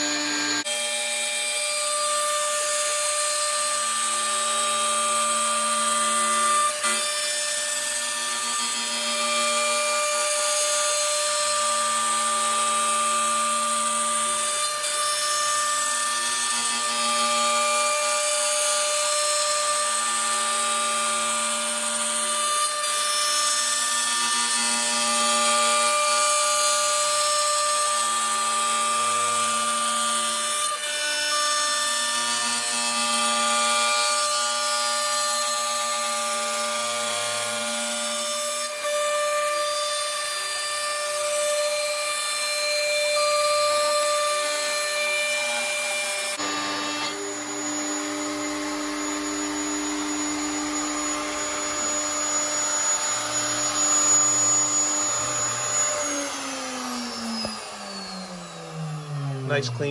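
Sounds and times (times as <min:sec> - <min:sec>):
bit cutting fibreboard: 0:00.0 - 0:59.9
router motor high whine: 0:00.0 - 0:59.9.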